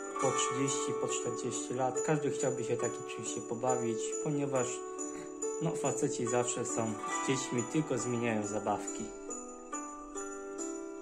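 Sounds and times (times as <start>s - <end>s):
christmas music from laptop speakers: 0.0s - 11.0s
jingle bells shaking: 0.0s - 11.0s.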